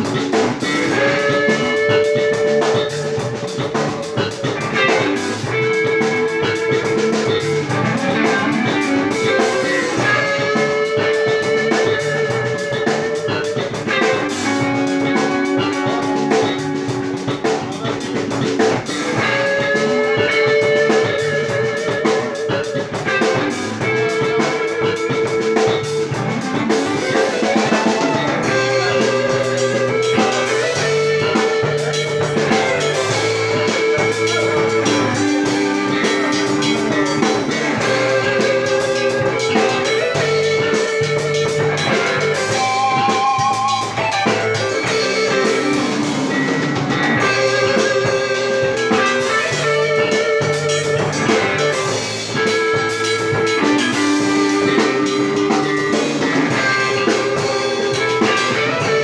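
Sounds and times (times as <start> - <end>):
drum kit cymbals: 0.0 - 59.0
electric guitar melody: 0.0 - 59.0.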